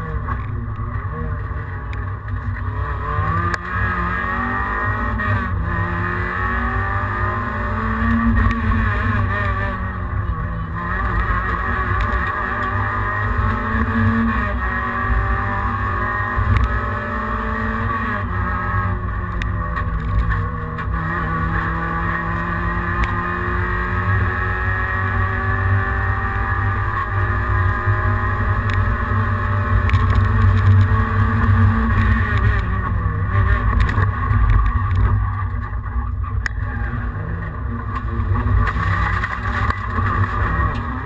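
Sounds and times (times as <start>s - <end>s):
car engine revving: 0.0s - 41.0s
drivetrain and road rumble: 0.0s - 41.0s.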